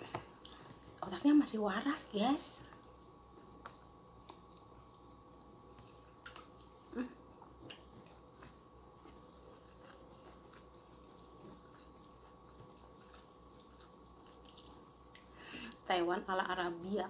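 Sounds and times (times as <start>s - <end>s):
soft chewing: 0.0s - 1.3s, 2.6s - 15.9s
low room hum: 0.0s - 17.0s.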